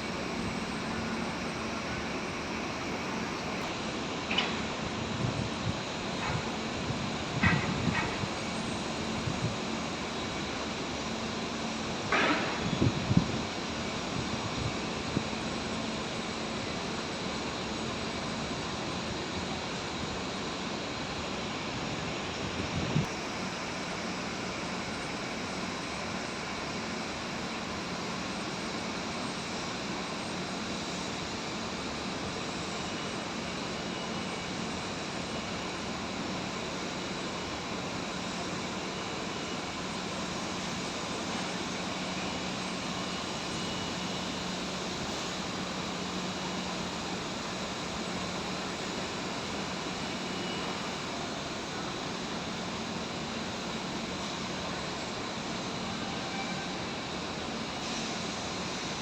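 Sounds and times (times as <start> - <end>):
crane engine running: 0.0 - 59.0.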